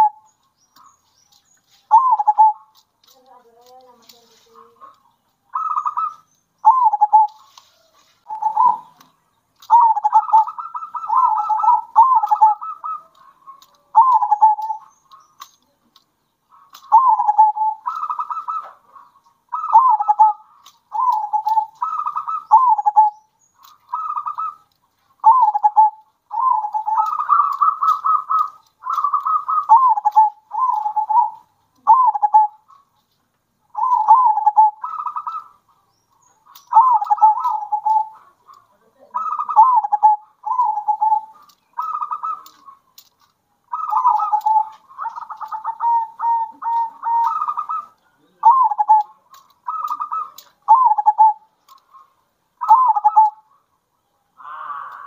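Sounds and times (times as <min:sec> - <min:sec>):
doves cooing: 0:00.0 - 0:33.0, 0:33.7 - 0:55.0.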